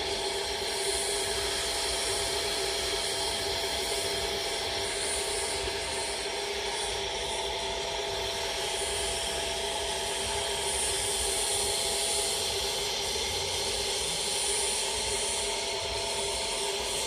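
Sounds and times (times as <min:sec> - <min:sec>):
thin high whine: 0:00.0 - 0:17.0
vacuum cleaner running: 0:00.0 - 0:17.0.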